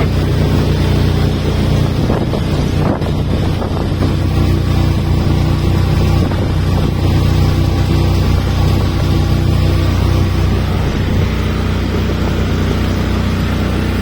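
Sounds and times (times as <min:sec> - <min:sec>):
motorboat engine running: 0:00.0 - 0:14.0
wind on microphone: 0:00.0 - 0:14.0.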